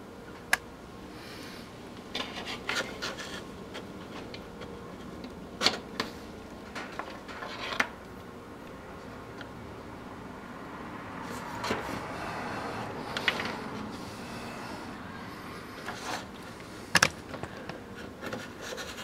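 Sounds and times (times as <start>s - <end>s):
wires rustling: 1.6s - 9.6s, 11.2s - 19.0s.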